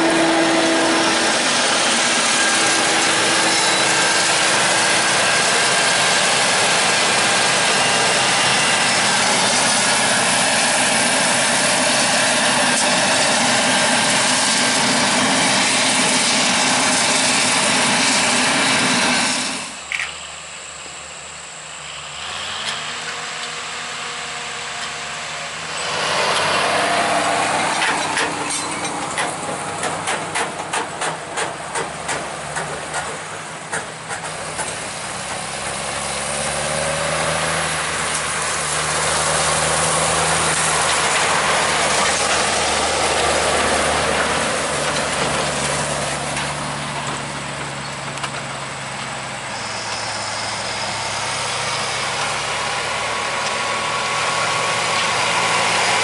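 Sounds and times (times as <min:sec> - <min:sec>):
forage harvester running: 0:00.0 - 0:56.0.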